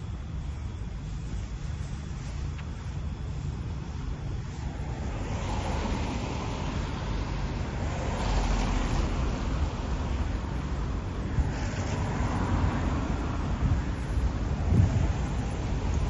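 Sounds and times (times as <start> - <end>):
low rumble of traffic: 0.0 - 16.0
cars driving past: 1.8 - 16.0.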